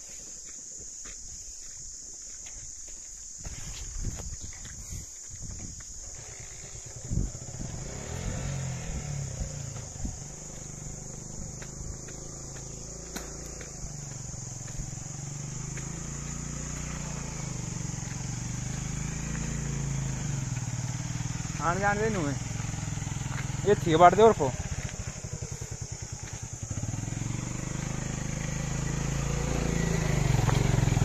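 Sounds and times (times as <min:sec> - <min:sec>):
footsteps on rough track: 0:00.0 - 0:08.0, 0:08.8 - 0:31.0
high insect buzz: 0:00.0 - 0:31.0
motorcycle engine at low revs: 0:03.4 - 0:31.0.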